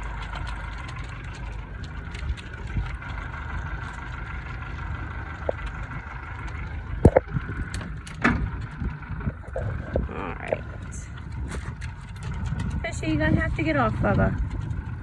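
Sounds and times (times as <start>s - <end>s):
boat motor idling: 0.0s - 15.0s.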